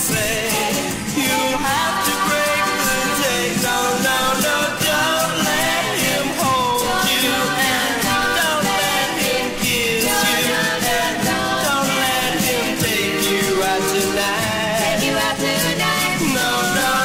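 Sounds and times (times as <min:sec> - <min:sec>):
pop song with full band: 0:00.0 - 0:17.0.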